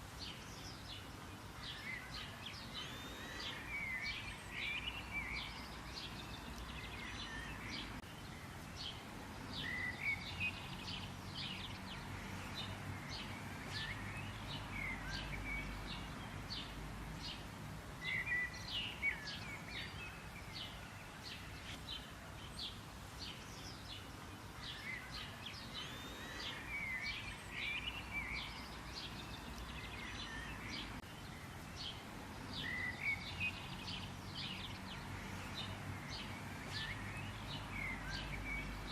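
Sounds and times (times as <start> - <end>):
songbirds chirping: 0.0 - 38.9
steady low background noise: 0.0 - 38.9.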